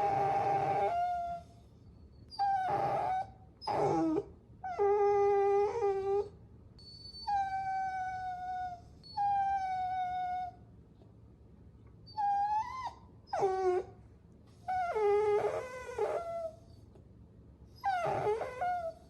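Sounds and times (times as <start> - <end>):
puppy whining: 0.0 - 10.6, 12.1 - 14.0, 14.6 - 17.0, 17.7 - 19.0.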